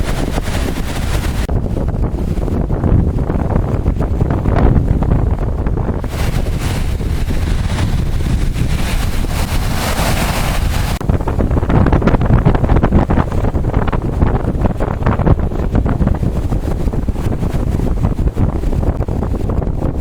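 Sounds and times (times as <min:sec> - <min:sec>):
waves breaking: 0:00.0 - 0:01.5, 0:03.5 - 0:20.0
surf from rough sea: 0:00.0 - 0:20.0
wind buffeting microphone: 0:00.0 - 0:20.0.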